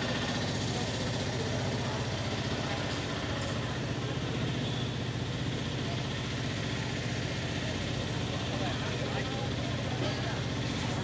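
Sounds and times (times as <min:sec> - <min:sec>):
engine idling: 0:00.0 - 0:11.0
faint murmur of voices: 0:00.0 - 0:11.0.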